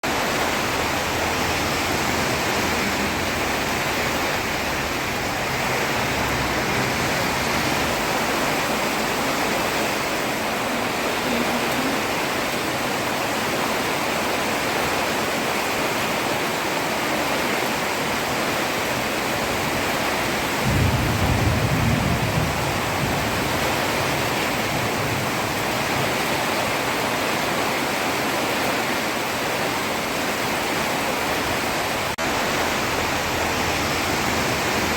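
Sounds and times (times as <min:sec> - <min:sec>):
heavy rain on a road: 0:00.0 - 0:34.9.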